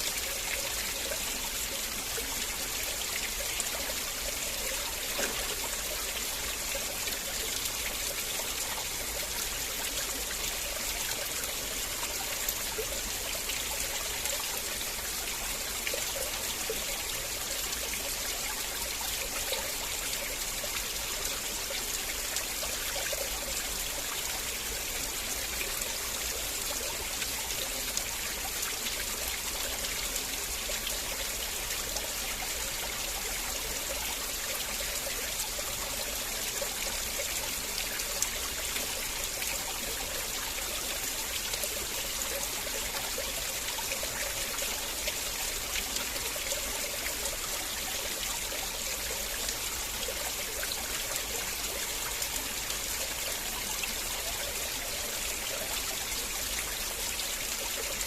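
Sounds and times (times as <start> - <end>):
river water flowing over stones: 0.0 - 58.0.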